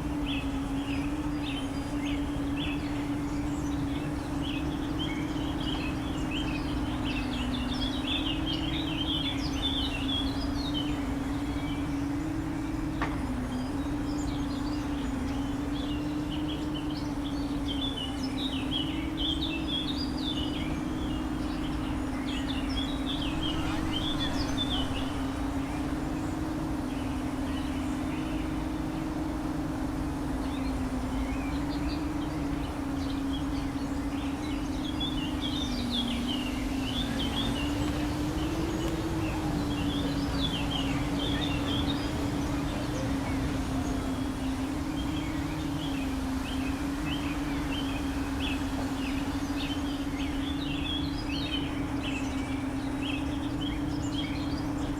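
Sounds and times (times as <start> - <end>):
birds chirping: 0.0 - 54.9
drone motors buzzing: 0.0 - 54.9.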